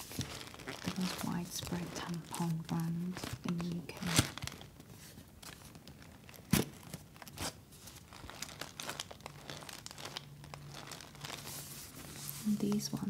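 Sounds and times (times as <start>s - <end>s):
cardboard crinkling and tearing: 0.0s - 13.0s.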